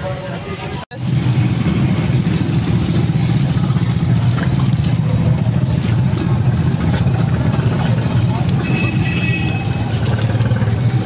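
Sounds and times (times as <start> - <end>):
vehicle engine running: 0.9 - 11.0.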